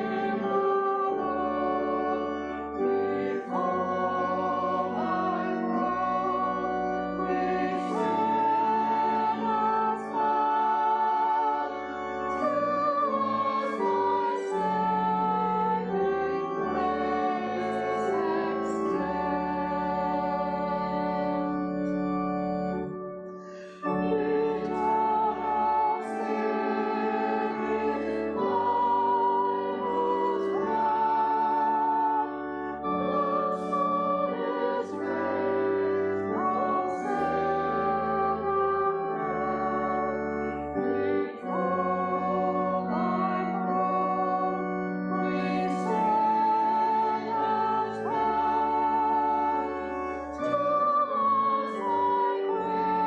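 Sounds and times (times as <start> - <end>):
choir and congregation singing: 0.0 - 53.0
organ chords: 0.0 - 53.0.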